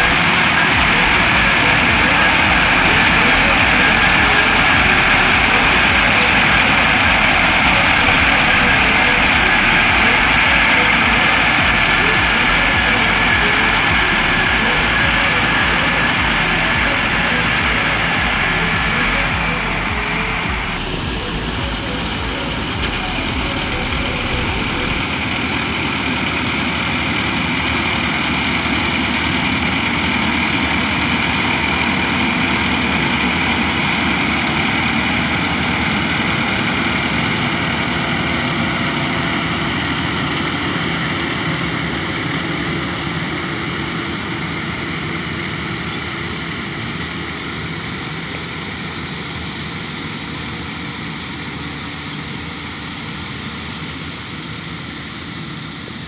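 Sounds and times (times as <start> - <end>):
combine harvester engine drone: 0.0 - 56.0.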